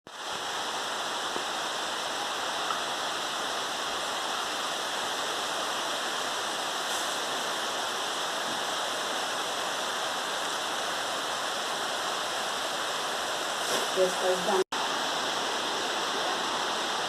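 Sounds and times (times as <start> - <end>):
steady rainfall: 0.1 - 17.0.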